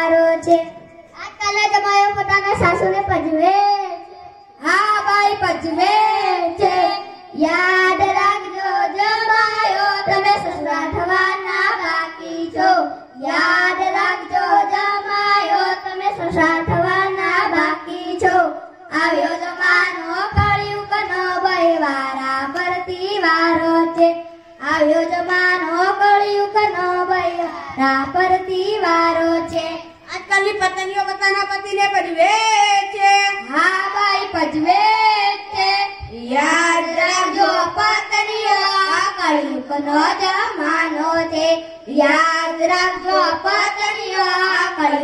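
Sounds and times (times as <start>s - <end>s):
boys singing through loudspeaker: 0.0s - 45.0s.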